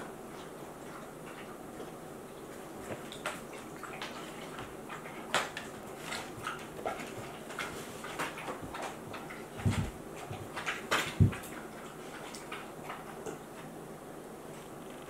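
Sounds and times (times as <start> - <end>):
dogs lapping water: 0.0 - 13.9.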